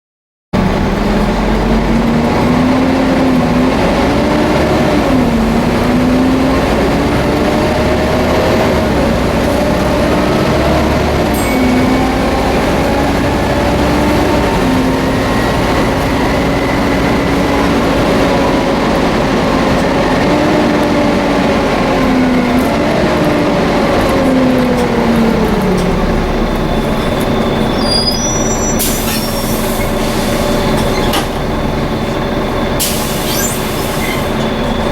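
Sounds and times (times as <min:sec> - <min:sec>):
bus engine: 0:00.6 - 0:34.9
hoover-like whine: 0:00.6 - 0:34.9.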